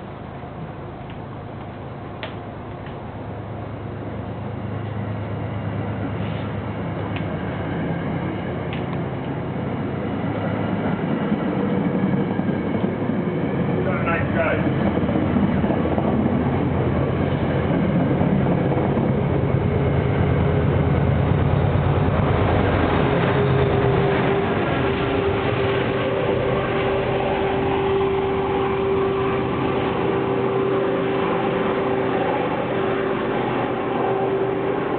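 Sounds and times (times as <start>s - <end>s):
steady train whine: 0.0s - 34.9s
train rumbling: 0.0s - 34.9s.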